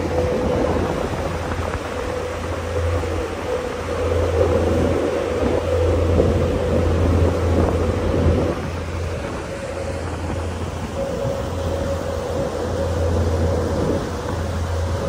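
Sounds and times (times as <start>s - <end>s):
motorboat engine humming: 0.0s - 15.0s
wake rushing water: 0.0s - 15.0s.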